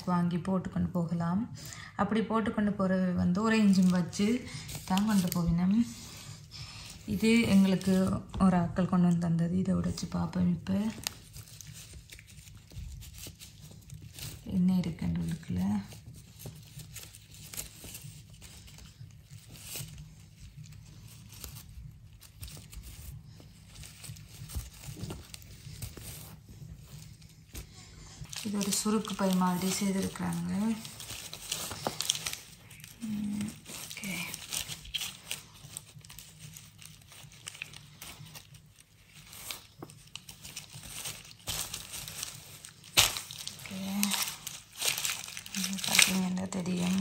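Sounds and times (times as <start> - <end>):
sack and paper tag rustling: 3.3 - 9.1, 9.8 - 47.0.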